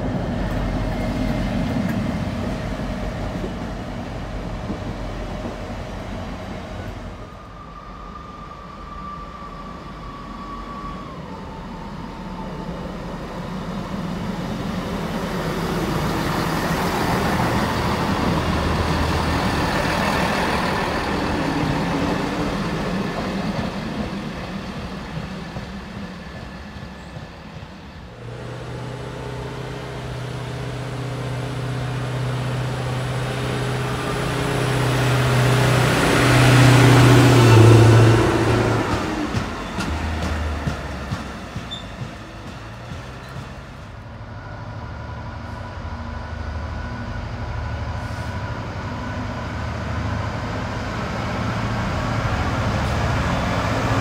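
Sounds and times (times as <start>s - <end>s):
diesel locomotive engine rumbling: 0.0s - 54.0s
diesel train passing: 0.0s - 54.0s.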